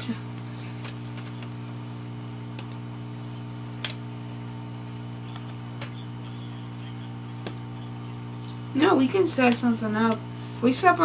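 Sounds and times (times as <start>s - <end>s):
low hum: 0.0s - 10.7s.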